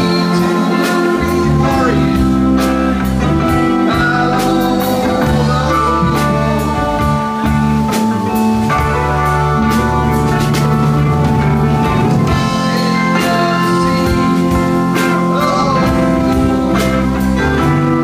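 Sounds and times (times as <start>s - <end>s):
drums and cymbals: 0.0s - 18.0s
electric guitar: 0.0s - 18.0s.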